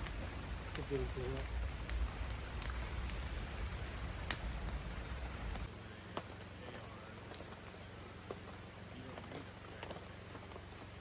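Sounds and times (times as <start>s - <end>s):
light rain pattering: 0.0s - 11.0s.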